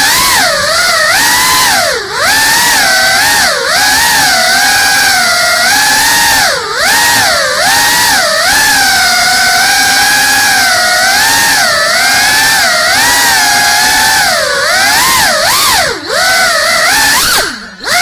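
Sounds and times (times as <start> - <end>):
drone motors and propellers whining: 0.0 - 18.0.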